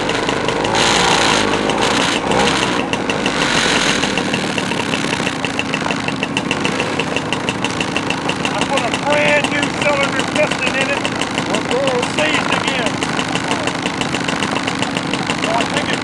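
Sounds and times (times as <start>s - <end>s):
scooter engines idling: 0.0s - 16.0s.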